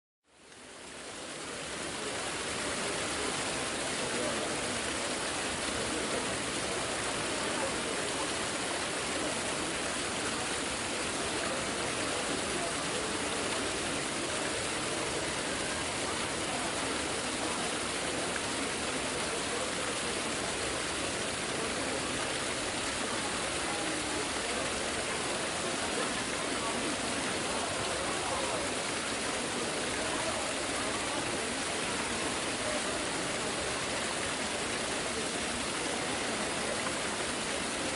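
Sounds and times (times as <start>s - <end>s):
murmur of large crowd: 0.4s - 37.9s.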